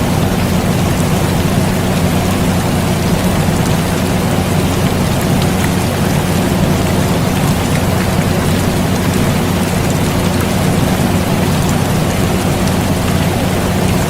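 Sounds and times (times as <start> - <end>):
air conditioner hum: 0.0 - 14.0
steady rain: 0.0 - 14.0.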